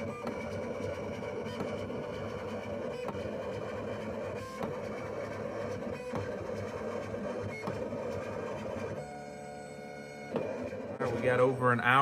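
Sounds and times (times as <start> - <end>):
vinyl plotter cutting head whirring: 0.0 - 12.0.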